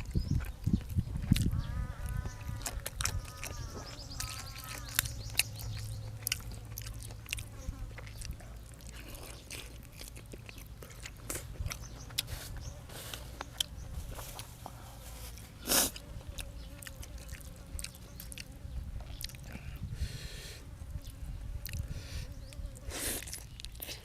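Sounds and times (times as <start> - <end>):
person chewing food: 0.0 - 19.8, 21.0 - 21.9, 23.0 - 24.0.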